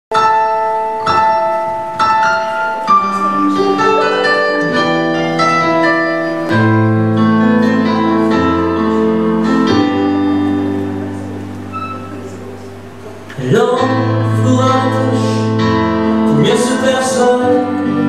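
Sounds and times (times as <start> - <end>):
ringing notes and chords: 0.1 - 18.0.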